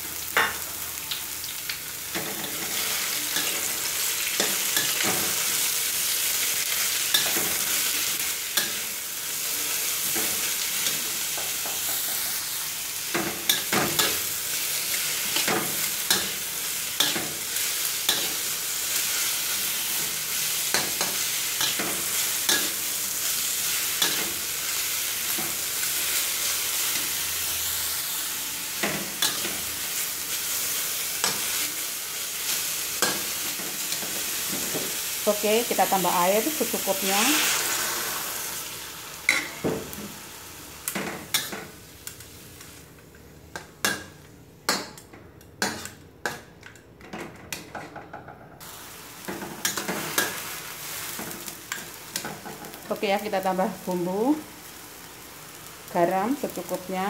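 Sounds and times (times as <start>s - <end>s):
vegetables sizzling in hot oil: 0.0s - 44.2s, 48.6s - 57.0s.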